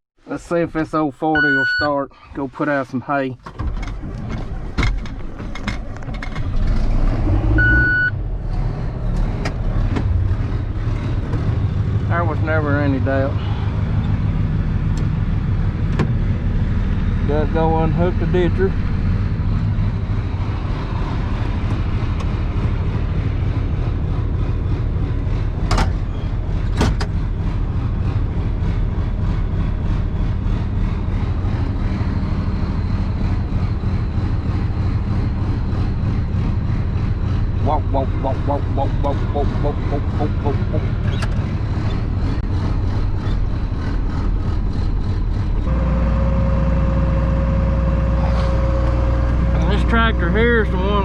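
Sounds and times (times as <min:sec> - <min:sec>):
tractor engine running: 0:00.3 - 0:51.0
high transmission whine: 0:01.2 - 0:02.0, 0:03.6 - 0:51.0.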